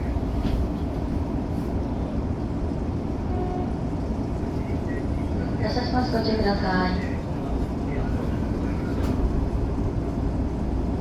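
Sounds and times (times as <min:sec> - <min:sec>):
electric train cab rumble: 0:00.0 - 0:11.0.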